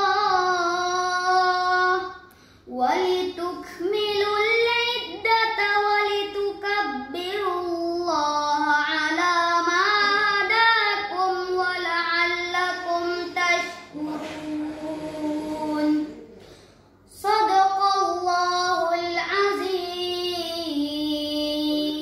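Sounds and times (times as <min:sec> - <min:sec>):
boy chanting verses: 0:00.0 - 0:22.0.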